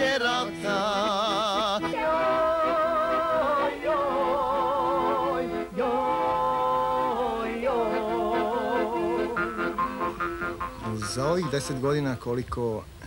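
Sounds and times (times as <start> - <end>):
man and boy singing folk song: 0.0 - 9.8, 10.8 - 12.6
piano accordion: 0.0 - 12.4.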